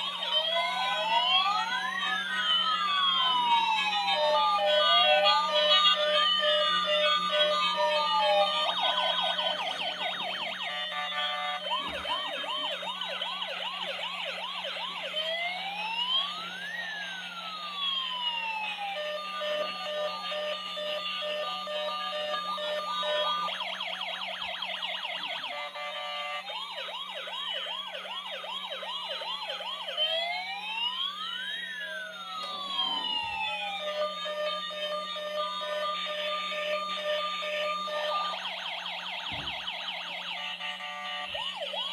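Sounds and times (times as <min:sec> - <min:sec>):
toy electronic siren warbling: 0:00.0 - 0:41.9.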